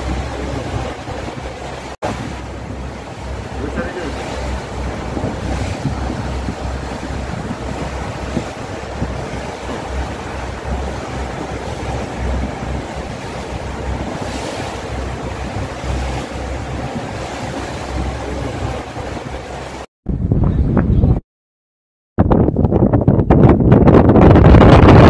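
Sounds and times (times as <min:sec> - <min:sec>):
wind buffeting microphone: 0:00.0 - 0:21.2, 0:22.2 - 0:25.0.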